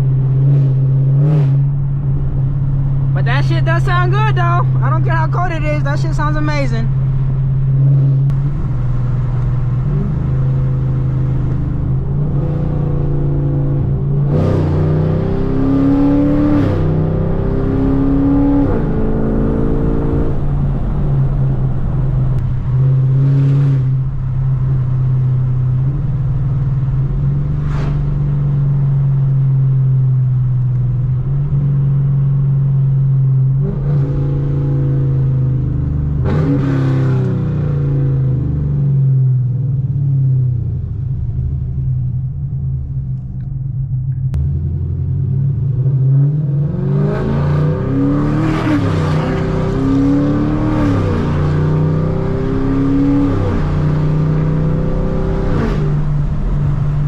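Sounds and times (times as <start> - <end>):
car exhaust droning: 0.0 - 57.0.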